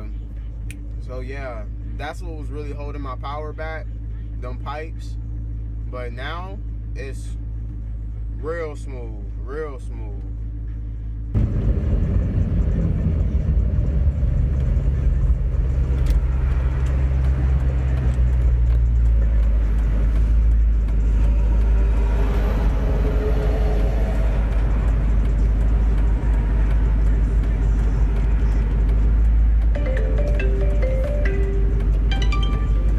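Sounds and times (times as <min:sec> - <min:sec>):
car exhaust deep rumble: 0:00.0 - 0:32.9.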